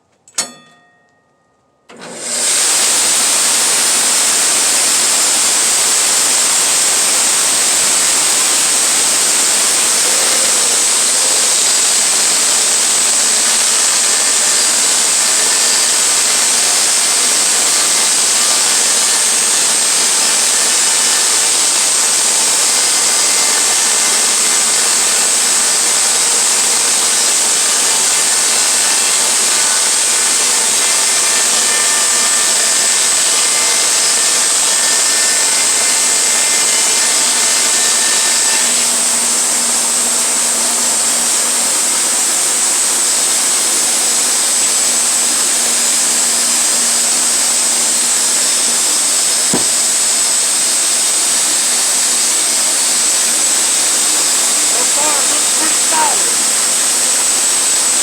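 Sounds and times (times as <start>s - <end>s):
sawmill cutting a log: 1.9s - 58.0s.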